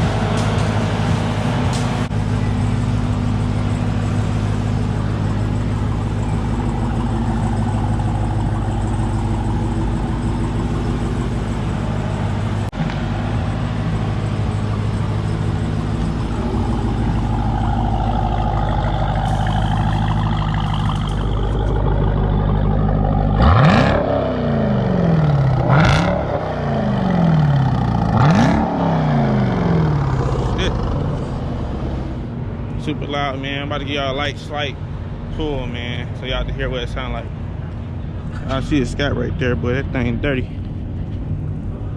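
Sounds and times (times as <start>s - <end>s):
loud car engine idling and revving: 0.0s - 41.9s.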